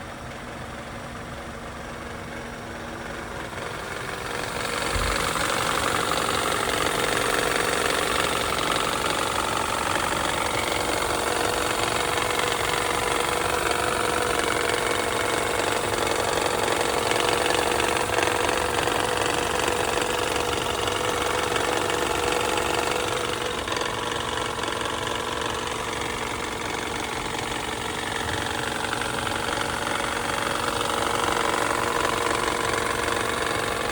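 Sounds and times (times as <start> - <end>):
engine running with a knock: 3.6 - 33.9.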